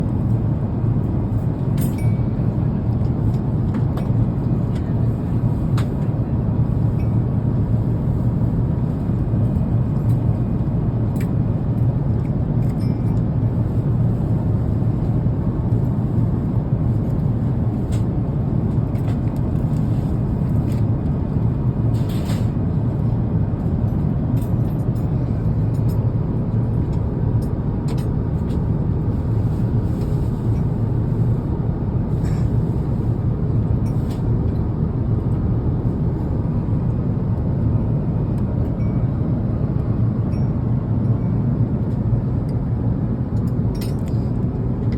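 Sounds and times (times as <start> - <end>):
airliner cabin rumble: 0.0 - 44.9.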